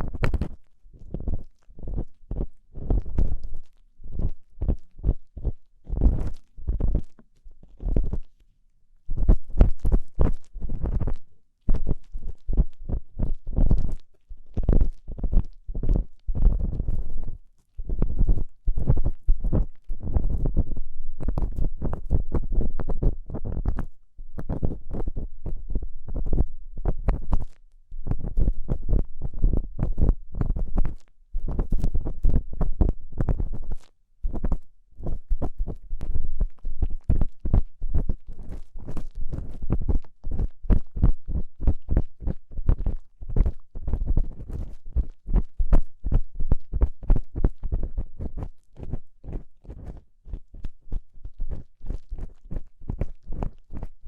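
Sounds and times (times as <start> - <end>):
low rumble of microphone contact: 0.0 - 8.3, 9.1 - 54.0
tool scratching on microphone: 0.0 - 8.3, 9.1 - 54.0.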